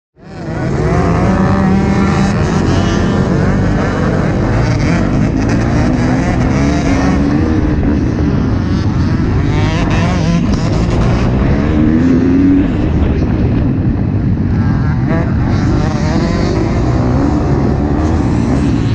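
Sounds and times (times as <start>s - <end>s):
motorcycle engine revving hard: 0.2s - 18.9s.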